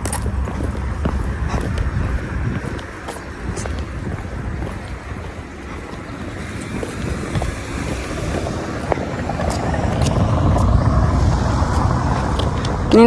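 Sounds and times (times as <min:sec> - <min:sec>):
car driving past: 0:00.0 - 0:12.9
wind buffeting microphone: 0:00.0 - 0:13.0.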